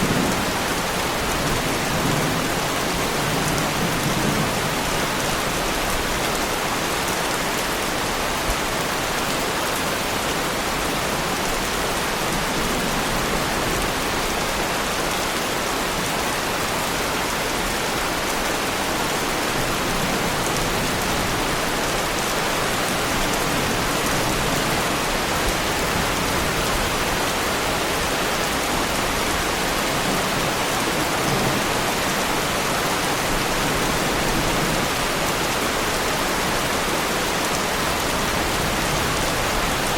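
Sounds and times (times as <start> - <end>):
heavy rain on car bodywork: 0.0 - 39.9.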